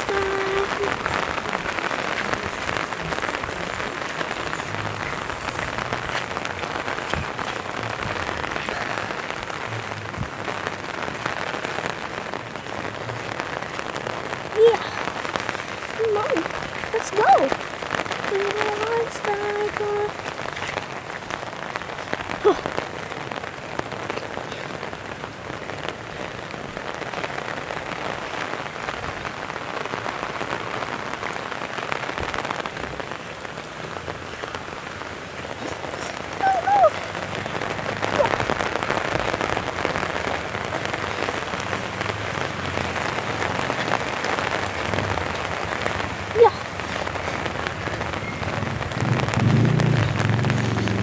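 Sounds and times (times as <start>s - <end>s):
rain pattering: 0.0s - 51.0s.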